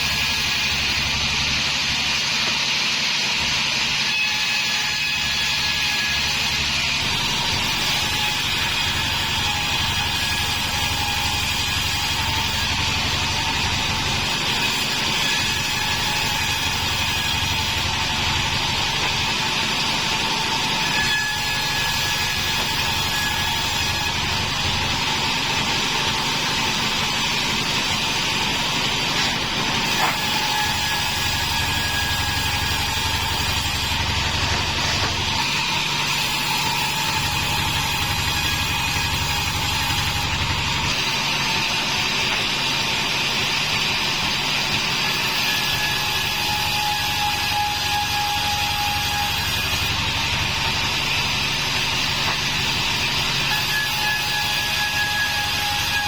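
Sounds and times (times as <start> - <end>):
sawmill mechanical drone: 0.0 - 56.0.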